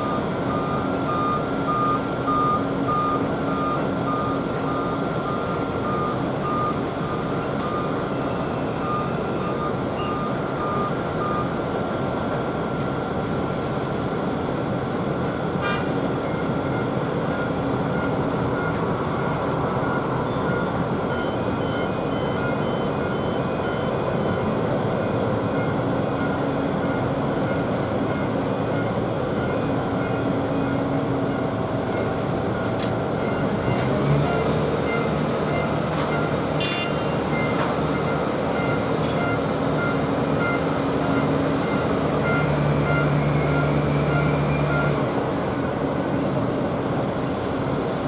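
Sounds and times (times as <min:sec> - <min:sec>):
faint warning beeps: 0:00.0 - 0:11.6, 0:16.2 - 0:45.1
aircraft and equipment roar: 0:00.0 - 0:48.0.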